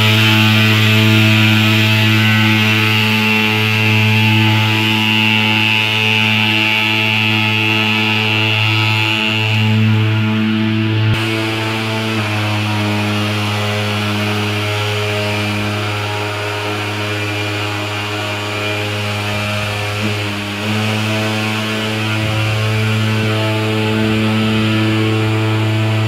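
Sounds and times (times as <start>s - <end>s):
fogging machine engine drone: 0.0s - 26.0s.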